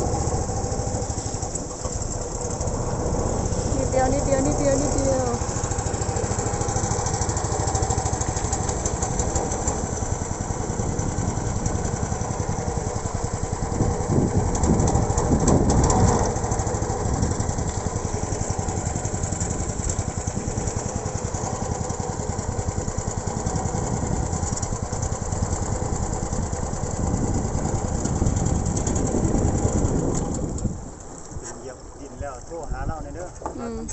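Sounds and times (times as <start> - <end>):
small boat engine running: 0.0 - 33.9.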